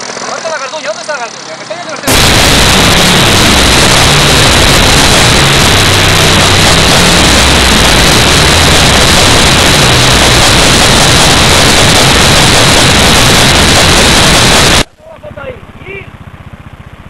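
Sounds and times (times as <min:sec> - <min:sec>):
loud steady rushing noise: 0:00.0 - 0:14.9.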